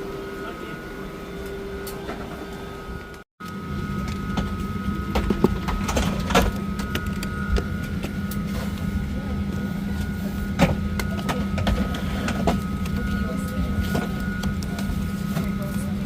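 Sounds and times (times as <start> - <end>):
airplane cabin hum: 0.0 - 16.0.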